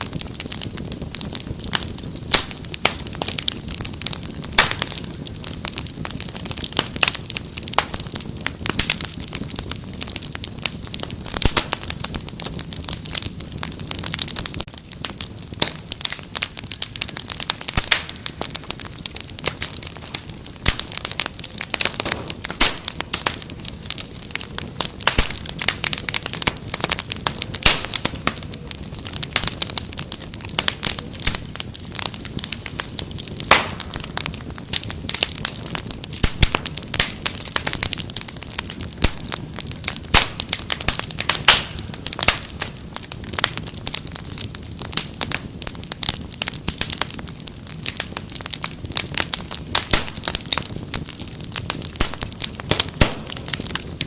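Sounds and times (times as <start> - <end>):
low hiss of burning: 0.0 - 54.0
wood fire crackling: 0.0 - 54.0.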